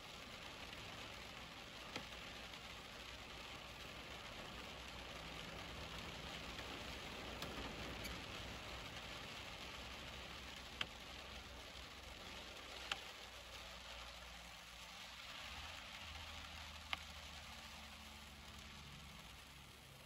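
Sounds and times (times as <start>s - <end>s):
heavy rain on vehicle: 0.0s - 20.0s.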